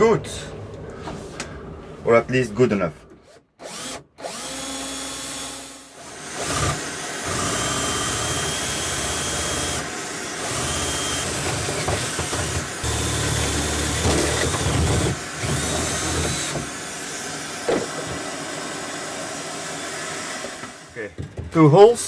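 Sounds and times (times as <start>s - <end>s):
power drill running: 3.3s - 21.0s.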